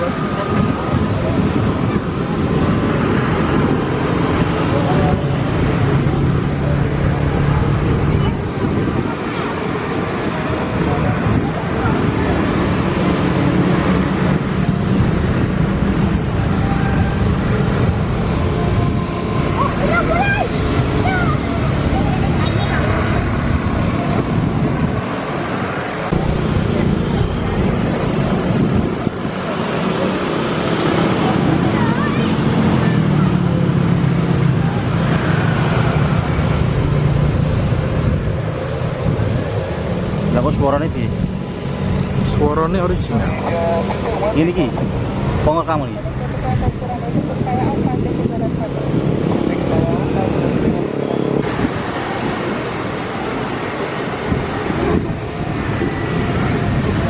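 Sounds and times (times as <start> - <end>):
jet engines rumbling: 0.0 - 57.0
wind buffeting microphone: 0.0 - 57.0.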